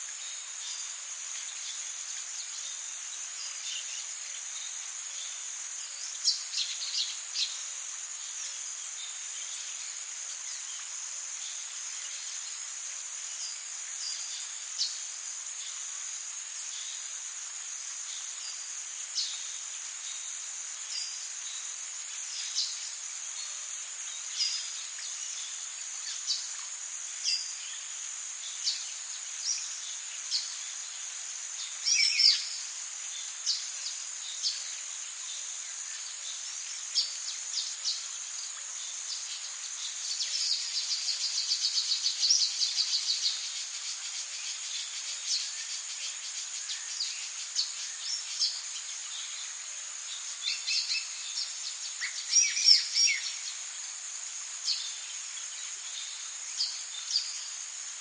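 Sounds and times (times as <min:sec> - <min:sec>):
even hiss: 0:00.0 - 0:58.0
high-pitched insect drone: 0:11.4 - 0:58.0.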